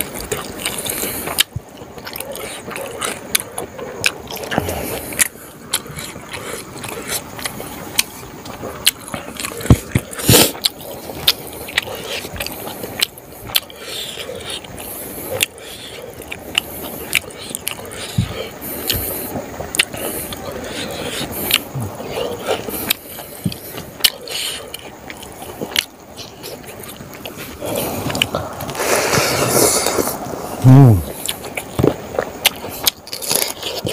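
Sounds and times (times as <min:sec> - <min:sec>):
wet chewing and lip-smacking: 0:00.0 - 0:30.4, 0:31.0 - 0:33.9.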